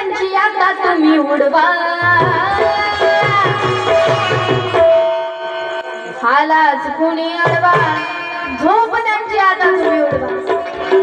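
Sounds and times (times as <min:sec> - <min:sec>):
harmonium: 0:00.0 - 0:11.0
tabla beat: 0:00.0 - 0:11.0.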